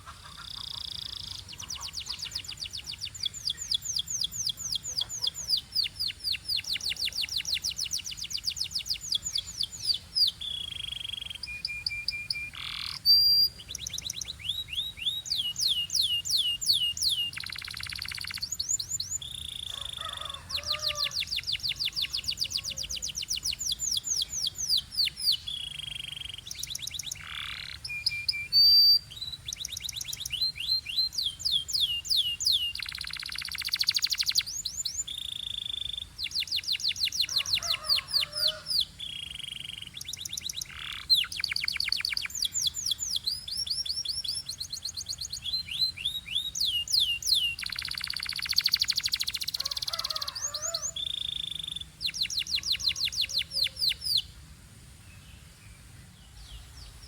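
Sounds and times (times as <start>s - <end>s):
canary singing: 0.0s - 54.3s.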